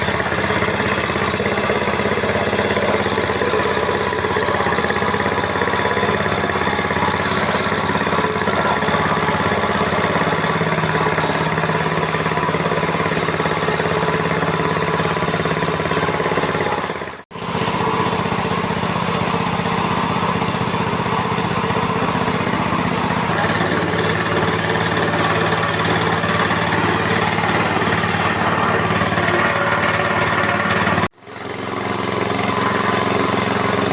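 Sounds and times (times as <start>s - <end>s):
mill machine drone: 0.0s - 33.9s.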